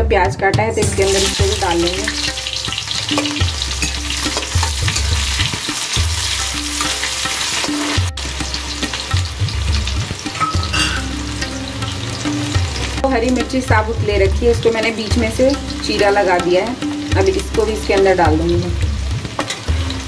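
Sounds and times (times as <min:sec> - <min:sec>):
onion sizzling in hot oil: 0:00.7 - 0:13.9, 0:14.6 - 0:20.0.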